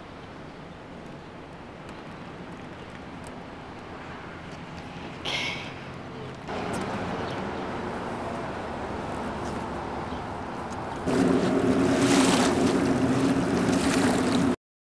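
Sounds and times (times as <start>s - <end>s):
water lapping at shore: 0.0s - 14.6s.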